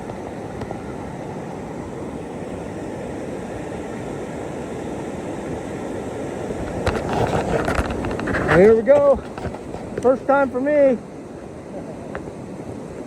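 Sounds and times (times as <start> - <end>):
whitewater river rushing: 0.0 - 13.0.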